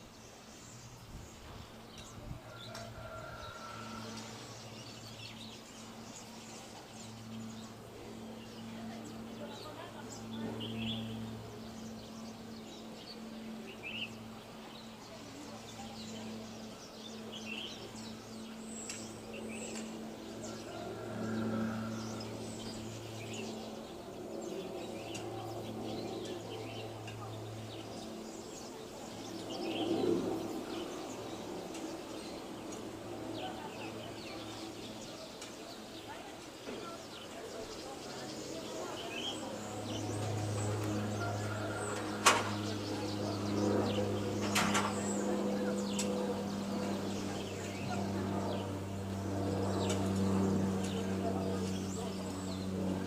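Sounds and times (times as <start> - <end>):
steady low hum: 0.0 - 36.6, 37.6 - 53.0
small birds chirping: 0.0 - 53.0.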